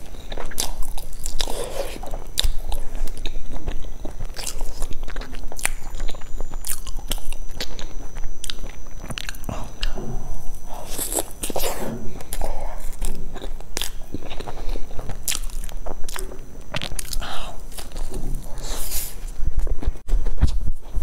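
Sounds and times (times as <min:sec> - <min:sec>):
biting and chewing cake: 0:00.0 - 0:21.0.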